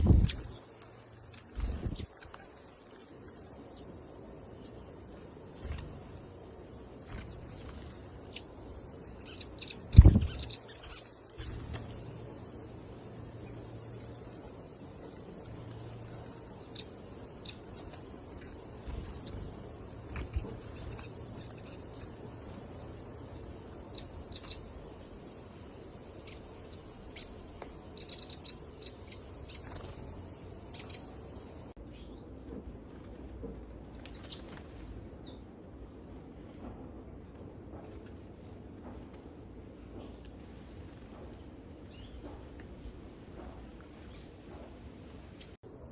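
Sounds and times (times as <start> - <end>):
small birds chirping: 0.0 - 35.5, 36.2 - 45.9.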